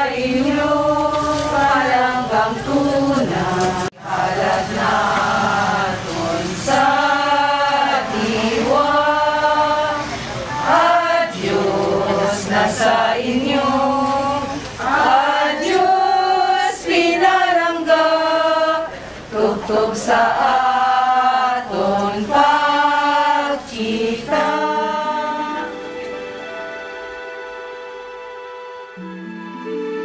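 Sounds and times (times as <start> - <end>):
group singing a hymn: 0.0 - 27.2.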